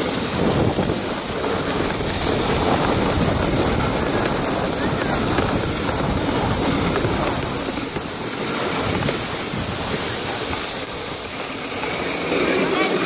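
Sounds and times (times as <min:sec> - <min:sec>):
plastic sled sliding over snow: 0:00.0 - 0:13.0
wind on microphone: 0:00.0 - 0:13.0.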